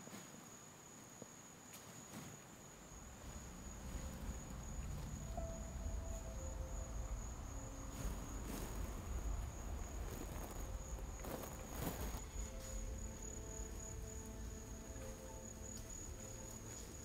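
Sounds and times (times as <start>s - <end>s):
rustles in dry leaves: 1.8s - 17.0s
insect high-pitched trill: 2.9s - 17.0s.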